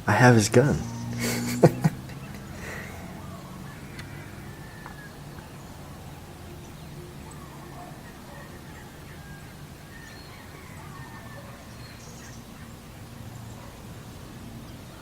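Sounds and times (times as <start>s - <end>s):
faint bird chirps: 0.6s - 15.0s.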